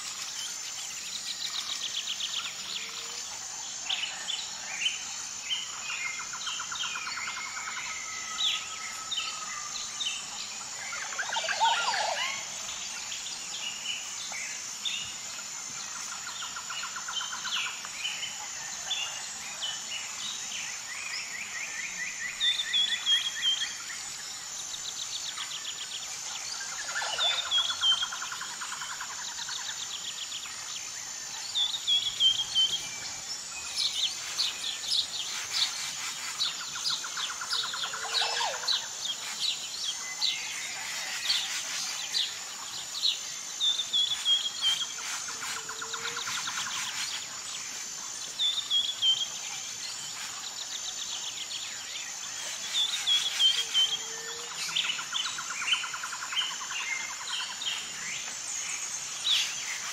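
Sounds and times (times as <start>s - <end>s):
songbirds singing: 0.0s - 59.9s
steady high-pitched buzz: 0.0s - 59.9s.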